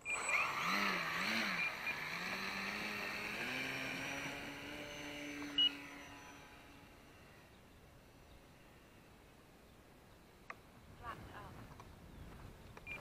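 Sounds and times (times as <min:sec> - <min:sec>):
model plane motor and propeller: 0:00.0 - 0:10.8.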